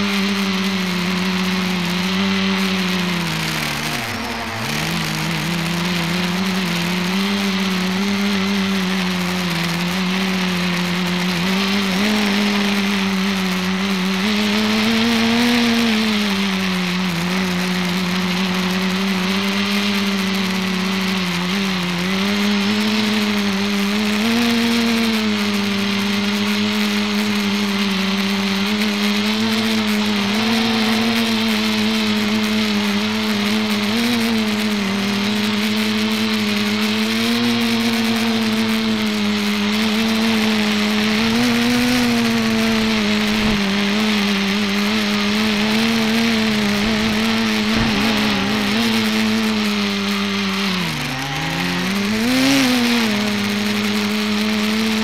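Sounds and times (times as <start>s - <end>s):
drone motors humming: 0.0s - 55.0s.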